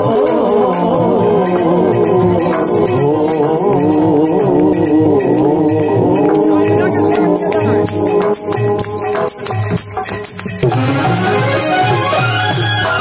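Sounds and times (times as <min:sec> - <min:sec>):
dholak drum beat: 0:00.0 - 0:13.0
jingling hand percussion: 0:00.0 - 0:13.0
wavering melody: 0:00.0 - 0:13.0.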